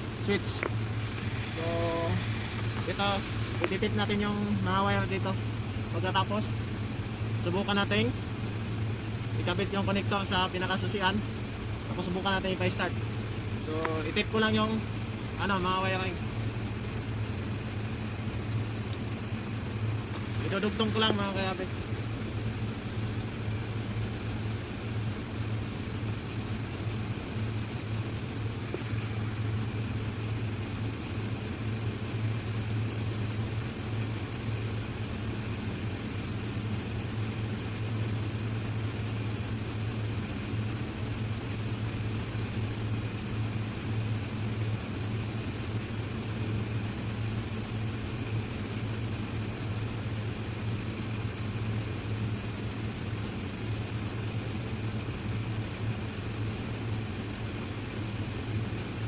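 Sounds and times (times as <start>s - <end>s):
machinery humming: 0.0s - 59.0s.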